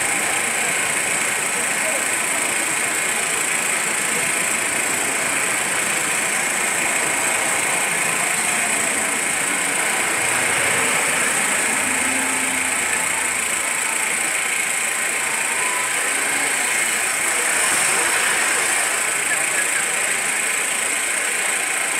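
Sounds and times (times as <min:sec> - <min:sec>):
motorcycles and cars passing: 0:01.8 - 0:21.9.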